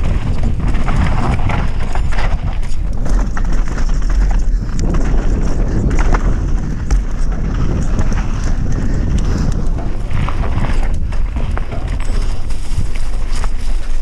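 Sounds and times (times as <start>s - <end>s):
bike rattling clicks and knocks: 0.0s - 14.0s
bike rumbling on dirt trail: 0.0s - 14.0s.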